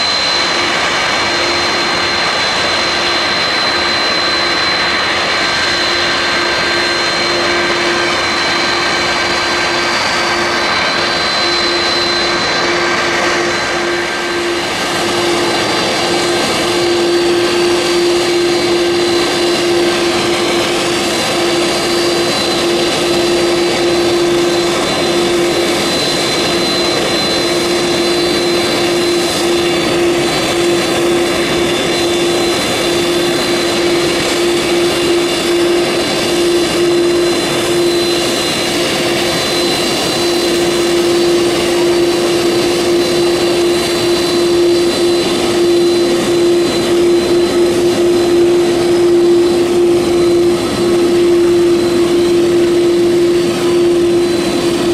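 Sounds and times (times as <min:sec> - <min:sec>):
jet engines whining drone: 0:00.0 - 0:54.9.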